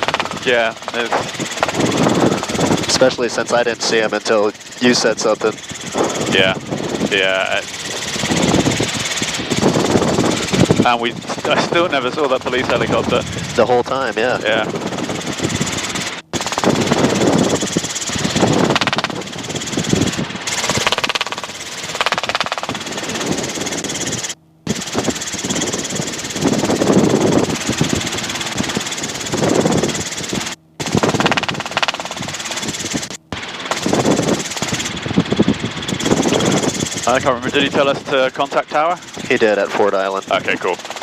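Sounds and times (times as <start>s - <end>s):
helicopter engine and rotor drone: 0.0s - 41.0s.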